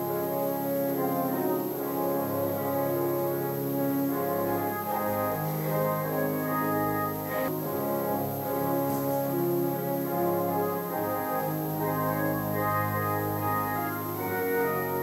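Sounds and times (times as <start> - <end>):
church organ playing chords: 0.0 - 15.0.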